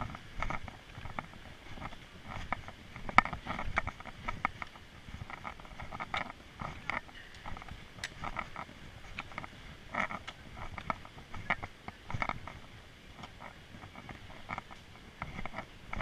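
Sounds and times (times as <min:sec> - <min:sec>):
footsteps crunching on rocky trail: 0:00.0 - 0:16.0.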